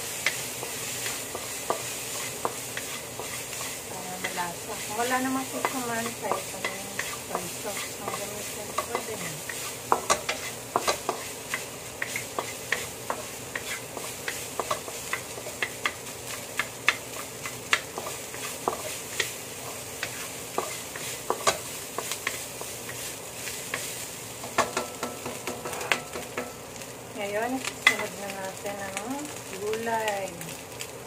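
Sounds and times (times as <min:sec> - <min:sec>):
spatula scraping and tapping wok: 0:00.0 - 0:26.9, 0:27.6 - 0:29.4
steady sizzle: 0:00.0 - 0:31.0.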